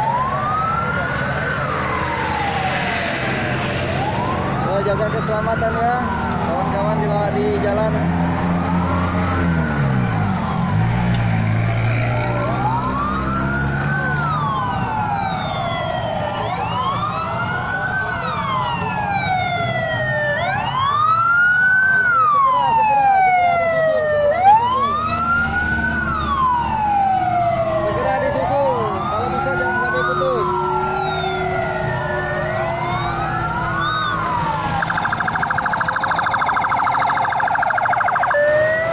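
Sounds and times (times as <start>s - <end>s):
fire engine sirens wailing: 0.0s - 38.9s.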